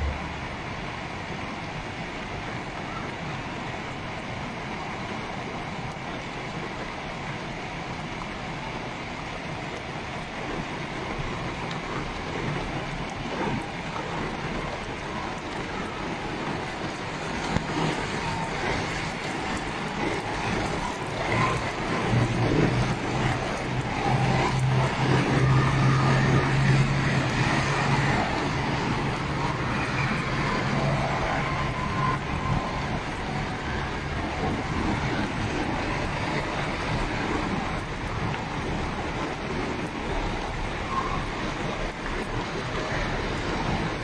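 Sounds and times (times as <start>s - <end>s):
vehicle engine hum: 0.0s - 44.0s.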